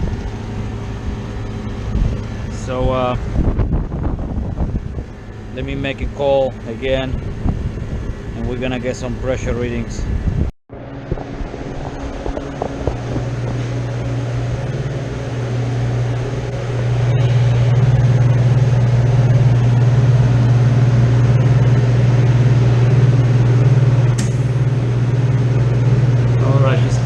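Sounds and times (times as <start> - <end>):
air conditioner compressor humming: 0.0 - 27.0.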